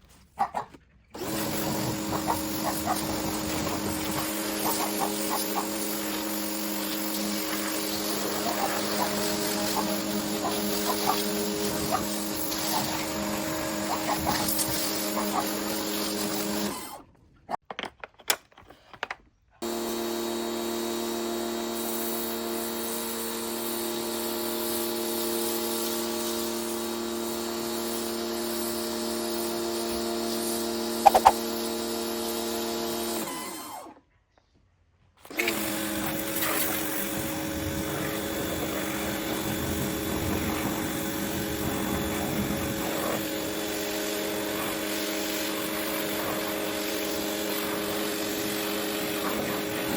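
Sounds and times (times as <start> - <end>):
pressure washer motor humming: 1.2 - 17.0, 19.6 - 34.0, 35.2 - 49.9.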